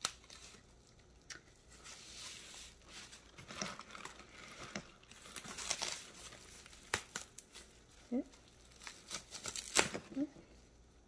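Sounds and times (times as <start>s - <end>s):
plastic wrap crinkling: 0.0s - 10.3s.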